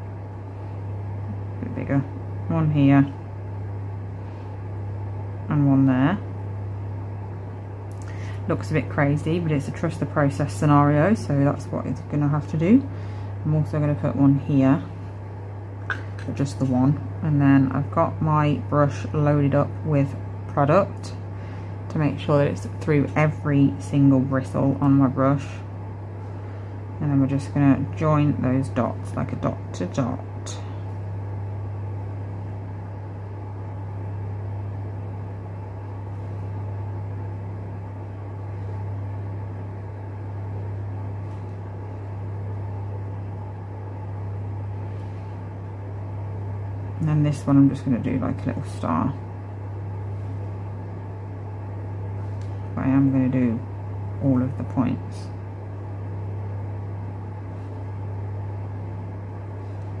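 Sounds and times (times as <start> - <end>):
room heater humming: 0.0 - 60.0.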